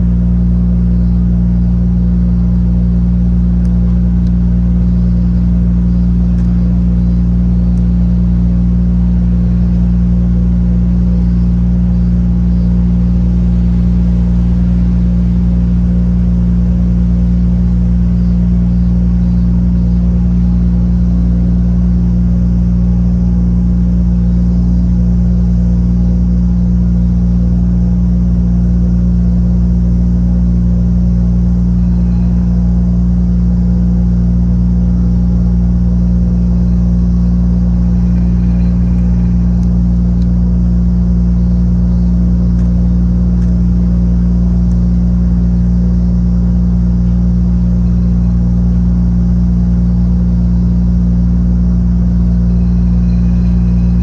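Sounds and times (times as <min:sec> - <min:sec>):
ship diesel engines droning: 0:00.0 - 0:54.0.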